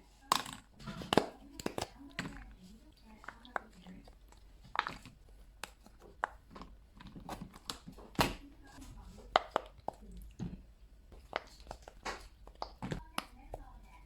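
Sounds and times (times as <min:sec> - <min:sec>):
fidget toys clicking and snapping: 0:00.1 - 0:14.0.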